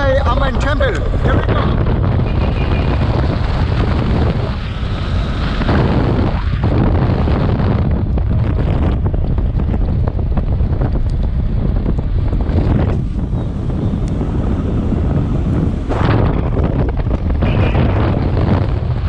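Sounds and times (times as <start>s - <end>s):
motorcycle engine and road noise: 0.0s - 19.0s
wind buffeting microphone: 0.0s - 19.0s.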